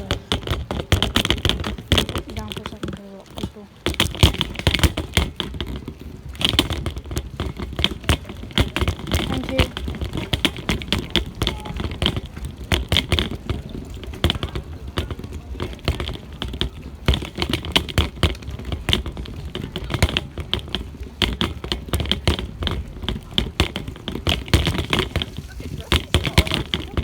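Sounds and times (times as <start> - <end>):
bicycle rattling with clicks: 0.0 - 27.0.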